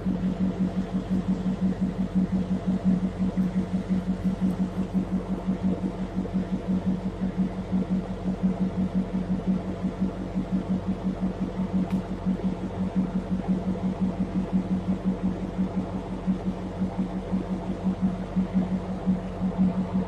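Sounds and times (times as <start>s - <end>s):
engine humming with pulses: 0.0s - 20.0s.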